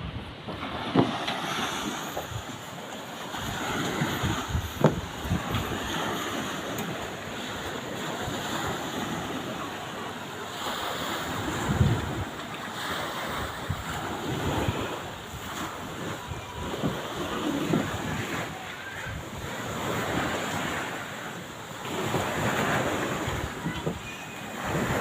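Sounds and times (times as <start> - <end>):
wind buffeting microphone: 0.0 - 9.7, 11.2 - 21.0, 21.8 - 25.0
waves washing: 0.0 - 25.0.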